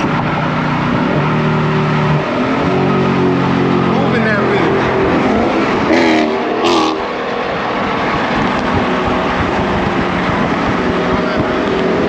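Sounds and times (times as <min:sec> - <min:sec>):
car engine drone: 0:00.0 - 0:12.0
road and wind noise: 0:00.0 - 0:12.0.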